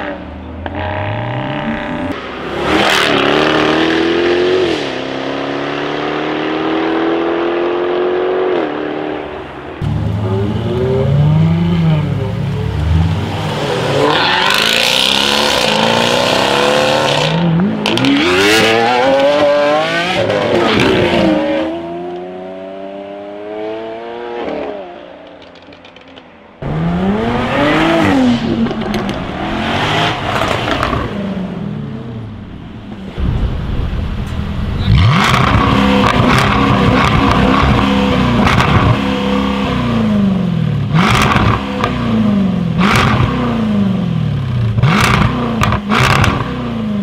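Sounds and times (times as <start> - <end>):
car engine revving and accelerating: 0.0 - 25.0, 26.6 - 32.2, 34.8 - 47.0.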